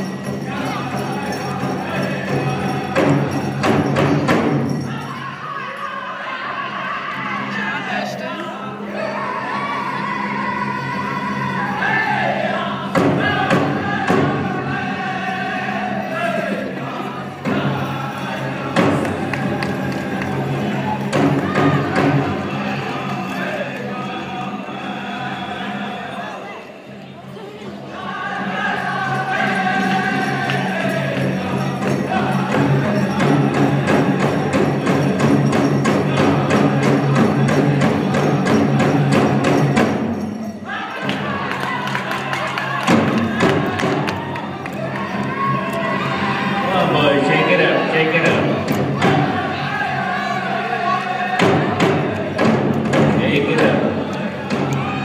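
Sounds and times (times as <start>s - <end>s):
group singing in high voices: 0.0s - 55.0s.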